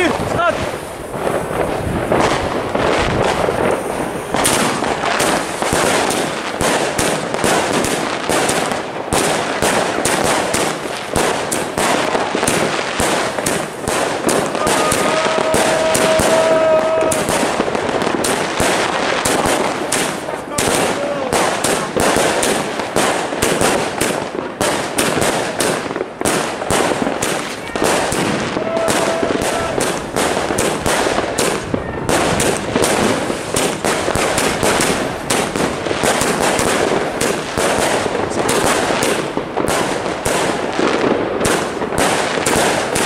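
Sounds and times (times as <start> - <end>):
fireworks cake firing rapid shots: 0.0 - 43.0.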